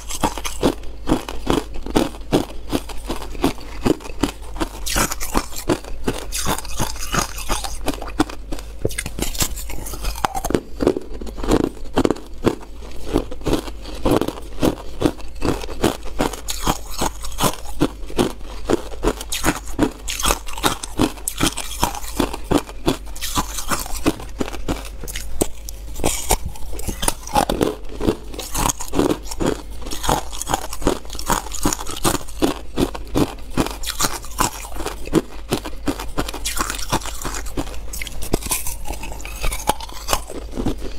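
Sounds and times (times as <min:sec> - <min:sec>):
ice crunching between teeth: 0:00.0 - 0:40.9.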